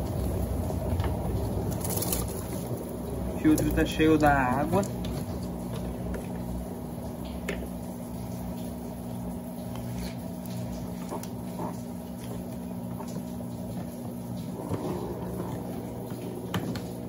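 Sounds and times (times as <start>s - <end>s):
washing machine motor hum: 0.0s - 17.0s
water sloshing: 0.0s - 17.0s.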